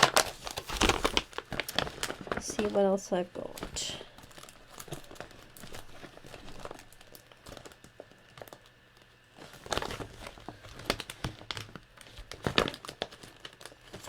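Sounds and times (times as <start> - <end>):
plastic packets crinkling: 0.0 - 14.0.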